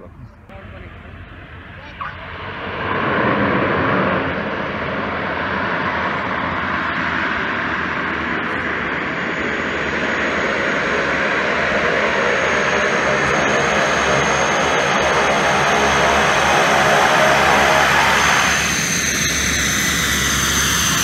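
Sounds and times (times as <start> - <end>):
turboprop engines and propellers running: 0.0 - 21.0
thin high whine: 0.5 - 21.0.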